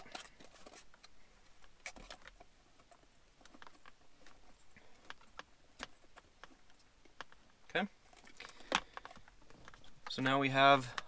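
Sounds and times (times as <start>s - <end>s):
faint clicks and taps of handling: 0.0s - 11.0s.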